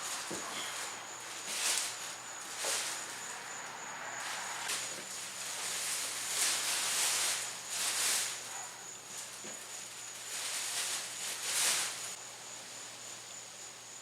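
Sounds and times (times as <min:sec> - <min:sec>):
plastic bags rustling: 0:00.0 - 0:12.2.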